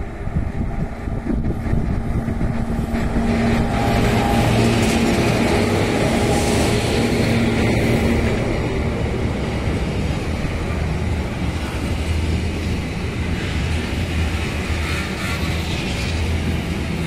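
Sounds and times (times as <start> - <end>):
locomotive electric hum: 0.0 - 17.0
train wheels rumbling on rail: 0.0 - 17.0.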